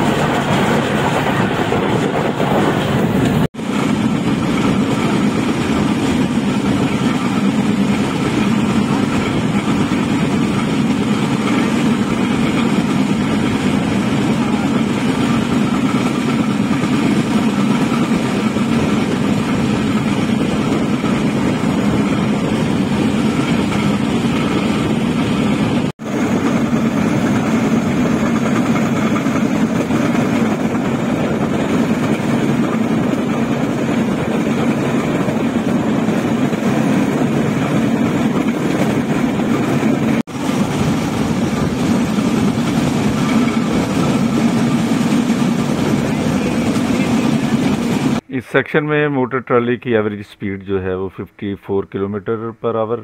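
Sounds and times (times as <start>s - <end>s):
rail trolley engine and wheels droning: 0.0s - 48.3s.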